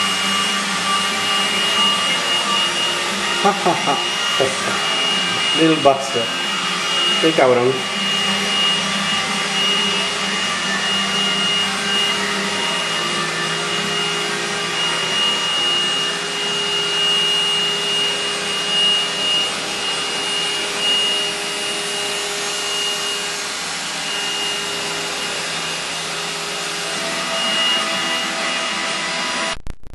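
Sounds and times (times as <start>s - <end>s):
robot vacuum cleaner running: 0.0s - 29.6s
thin high whine: 0.0s - 29.6s.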